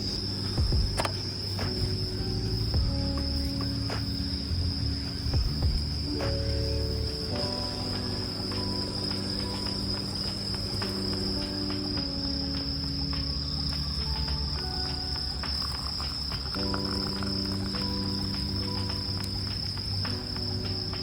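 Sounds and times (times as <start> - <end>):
insects trilling: 0.0 - 21.0
soft sustained music chords: 0.0 - 21.0.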